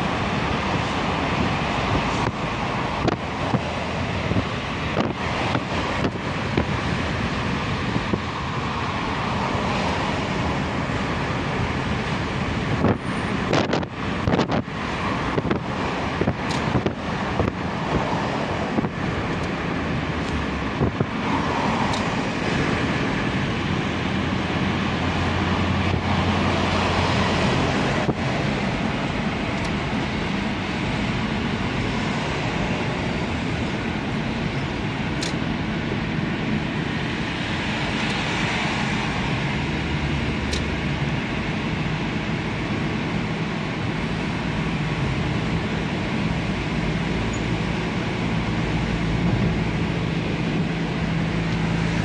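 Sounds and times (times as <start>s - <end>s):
tyre and engine rumble: 0.0s - 52.0s
wind rush: 0.0s - 52.0s.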